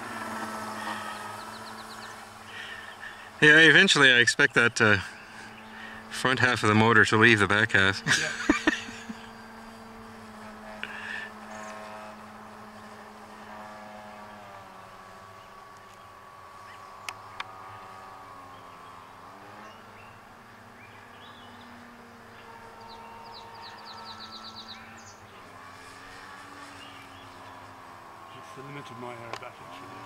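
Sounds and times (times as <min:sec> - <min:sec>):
model plane motor buzzing: 0:00.0 - 0:30.0.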